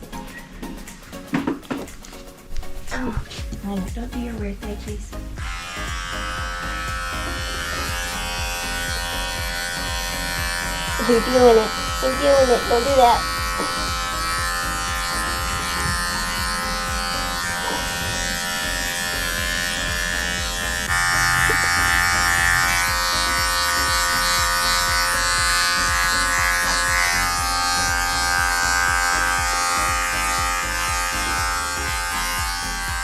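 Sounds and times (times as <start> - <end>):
electric clippers buzzing: 5.3 - 33.0.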